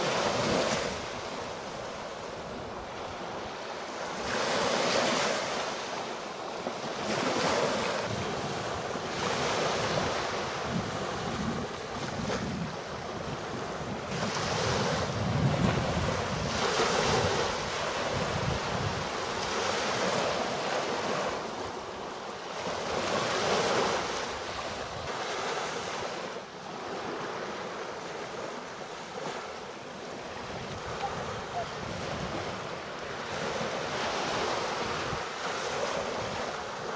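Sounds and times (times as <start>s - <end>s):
small waves washing on sand: 0.0s - 36.9s
wind buffeting microphone: 7.0s - 36.9s.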